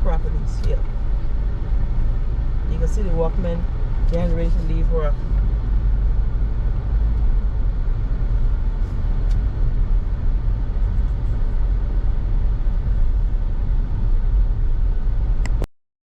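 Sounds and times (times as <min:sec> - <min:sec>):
loud low rumble: 0:00.0 - 0:15.7.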